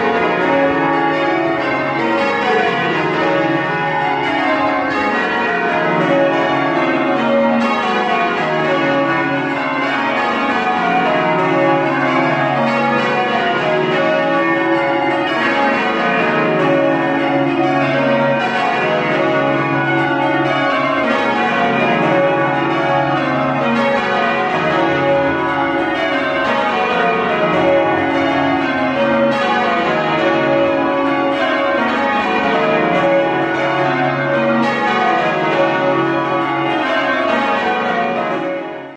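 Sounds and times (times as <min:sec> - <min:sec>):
church bells ringing rounds: 0:00.0 - 0:38.9.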